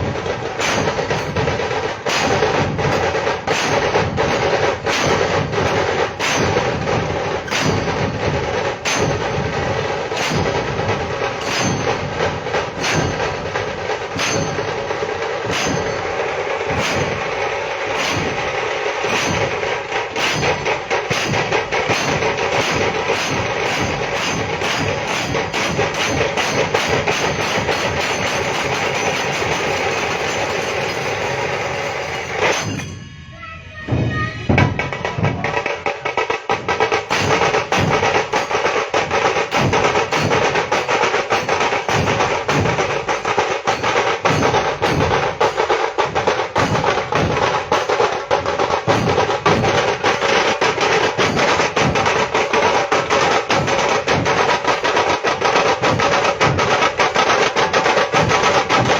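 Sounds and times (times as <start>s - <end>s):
fast rolling drum strokes: 0.0s - 33.1s, 33.8s - 58.9s
heavy low drum beats: 0.0s - 58.9s.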